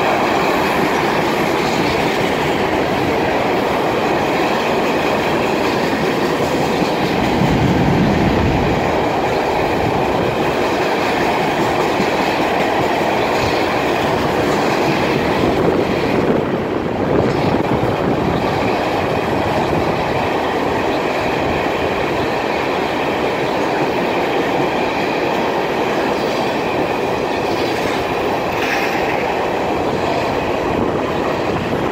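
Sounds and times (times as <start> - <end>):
steel train wheels on rails: 0.0 - 31.9.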